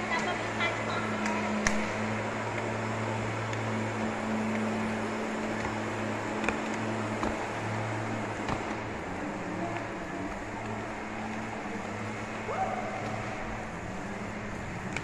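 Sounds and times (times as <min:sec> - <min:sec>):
low mechanical hum: 0:00.0 - 0:15.0
noisy wash: 0:00.0 - 0:15.0.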